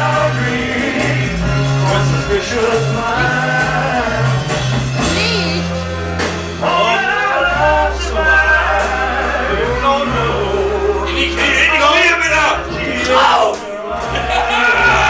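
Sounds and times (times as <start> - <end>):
live rock band playing: 0.0 - 15.0
voices singing: 0.0 - 15.0.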